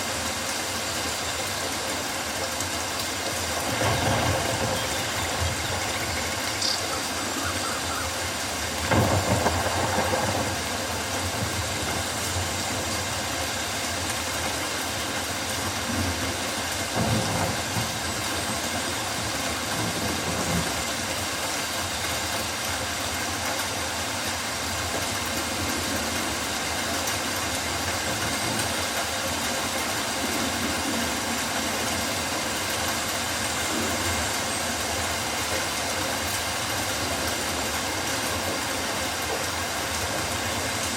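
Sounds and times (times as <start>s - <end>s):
rain on leaves: 0.0s - 40.9s.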